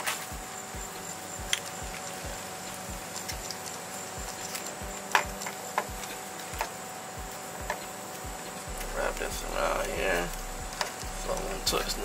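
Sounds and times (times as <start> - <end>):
electrical tape clicks and crackles: 0.0 - 12.0.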